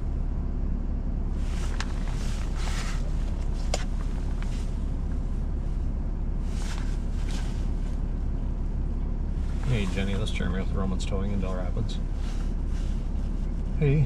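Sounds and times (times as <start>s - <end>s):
vehicle engine idling: 0.0s - 14.0s
faint clicks and rustles: 1.3s - 13.8s.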